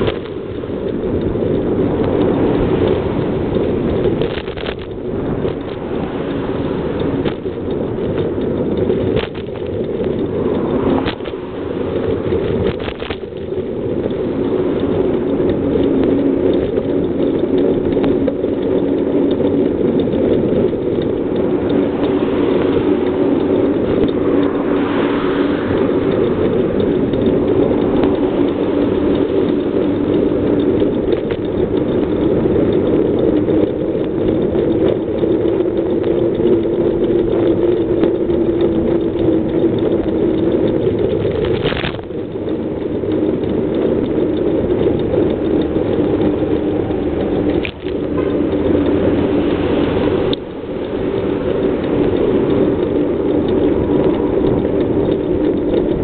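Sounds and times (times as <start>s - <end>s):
bicycle riding noise: 0.0s - 56.0s
passing car traffic: 0.0s - 56.0s.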